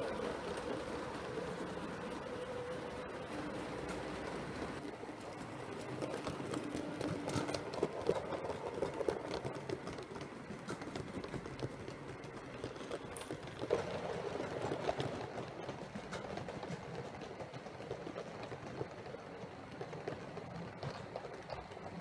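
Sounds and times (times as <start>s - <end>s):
model train rumbling: 0.0s - 22.0s
wheels clicking over rail joints: 0.0s - 22.0s.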